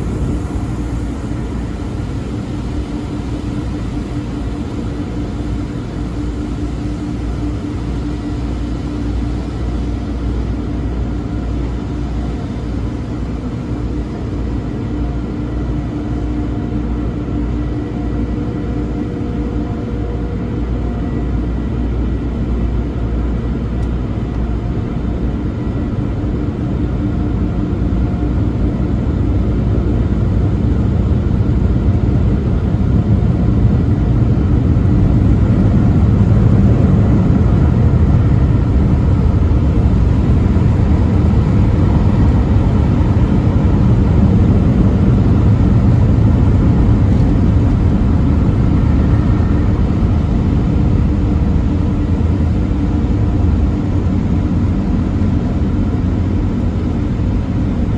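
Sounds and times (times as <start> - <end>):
car wash air dryers roaring: 0.0 - 57.9.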